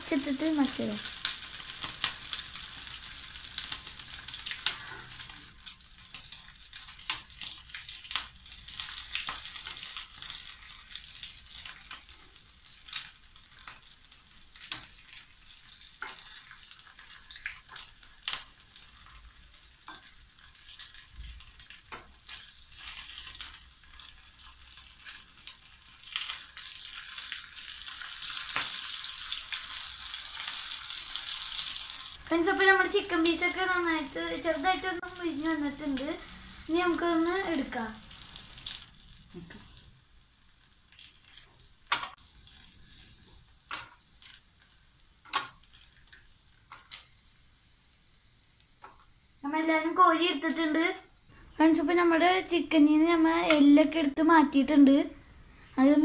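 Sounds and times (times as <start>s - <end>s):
oil crackling and popping: 0.0s - 49.2s
meat sizzling in oil: 0.0s - 54.1s.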